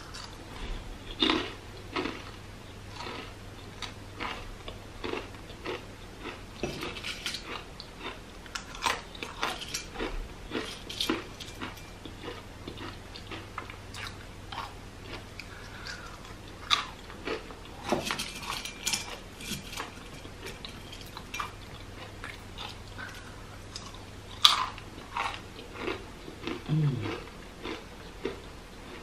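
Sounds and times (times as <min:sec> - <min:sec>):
crunching and chewing crisp chips: 0:00.0 - 0:29.0.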